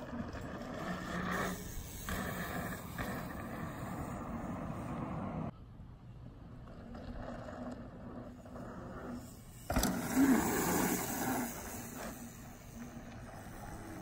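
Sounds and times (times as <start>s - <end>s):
mountain bike rolling on dirt: 0.0s - 5.5s, 6.5s - 14.0s
faint outdoor noise: 0.0s - 14.0s.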